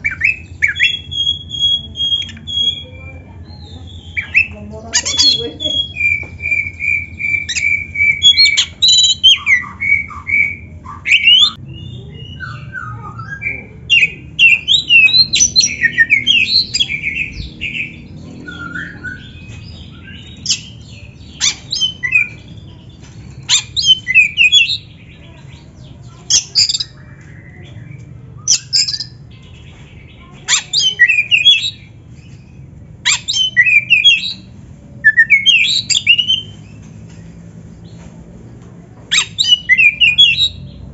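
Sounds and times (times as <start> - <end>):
bird singing whistled and harsh notes: 0.0 - 25.0, 25.8 - 29.4, 30.0 - 36.6, 39.1 - 40.8.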